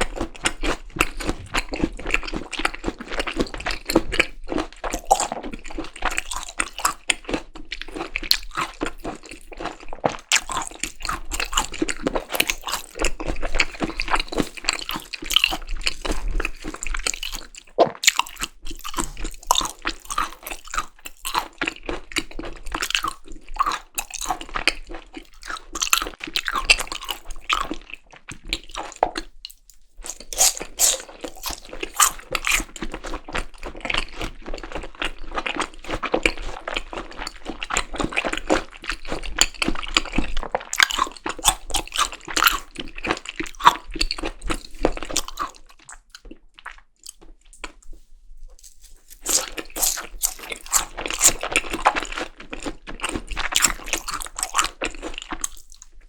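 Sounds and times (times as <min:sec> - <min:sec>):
close-miked chewing raw meat: 0:00.0 - 0:56.0.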